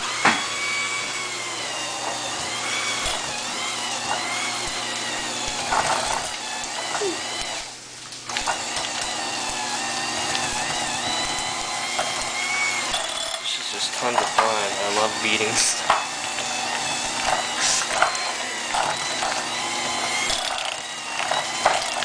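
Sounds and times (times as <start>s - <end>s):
electric hand mixer whining: 0.0s - 22.0s.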